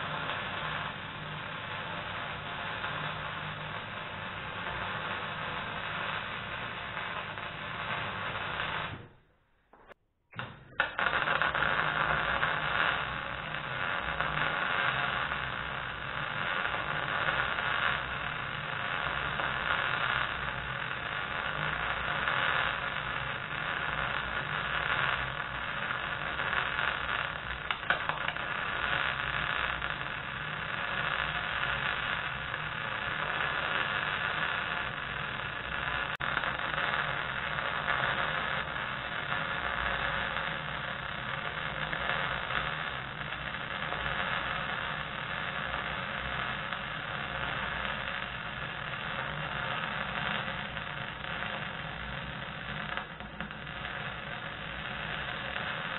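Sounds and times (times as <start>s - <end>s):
welding arc crackling: 0.0s - 55.9s.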